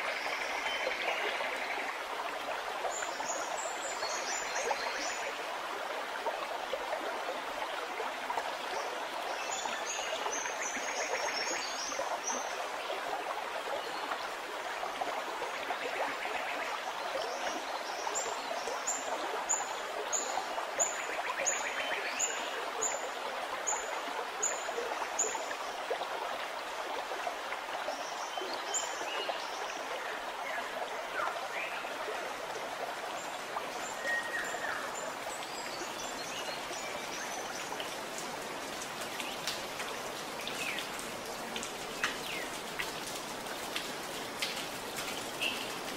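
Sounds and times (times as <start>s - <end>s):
stream splashing over rocks: 0.0s - 45.9s.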